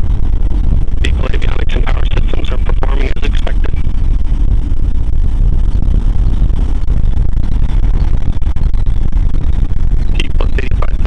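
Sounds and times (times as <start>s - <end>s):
rocket motors rumbling: 0.0s - 11.0s.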